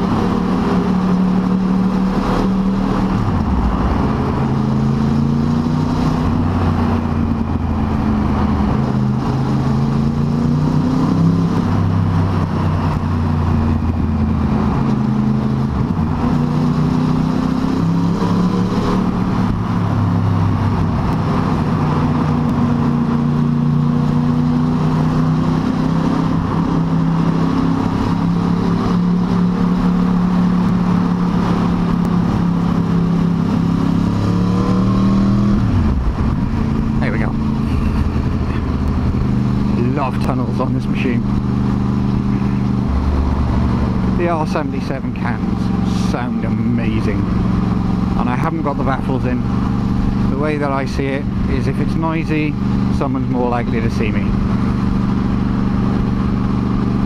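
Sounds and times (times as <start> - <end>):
motorcycle engine revving in tunnel: 0.0 - 57.0.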